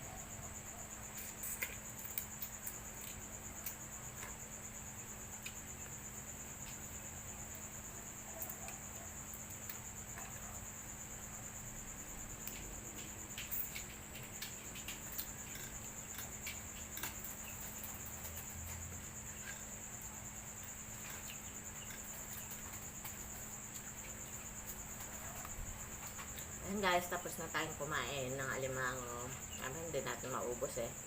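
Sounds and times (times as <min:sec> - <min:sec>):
crickets chirring: 0:00.0 - 0:31.0.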